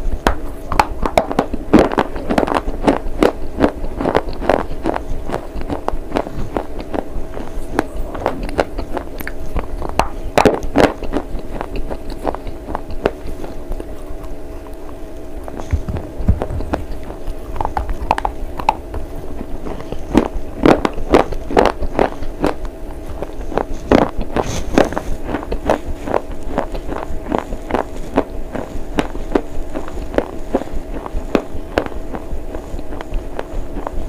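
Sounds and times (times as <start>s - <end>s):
steady low hum: 0.0s - 34.0s
crisp chewing crunches: 0.2s - 34.0s.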